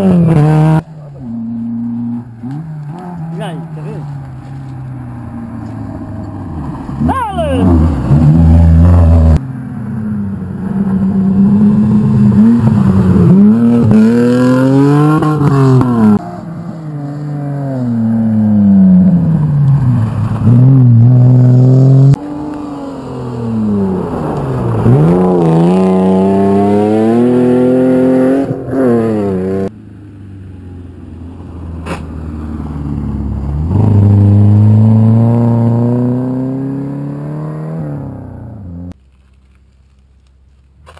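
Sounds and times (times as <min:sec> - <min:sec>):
rally car engines revving: 0:00.0 - 0:29.8, 0:31.4 - 0:39.0.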